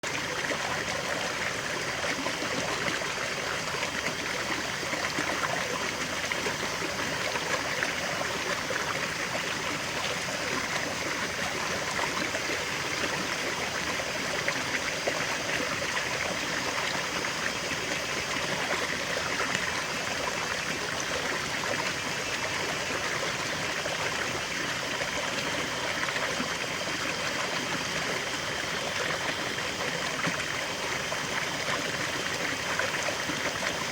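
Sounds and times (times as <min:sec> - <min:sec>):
stream trickling over stones: 0:00.0 - 0:33.9.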